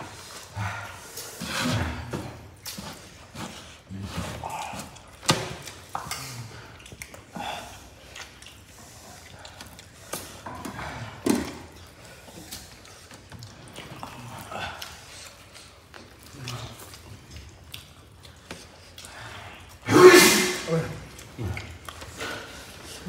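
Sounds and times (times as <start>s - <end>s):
chewing and mouth noises: 0.0s - 19.9s, 20.6s - 23.0s.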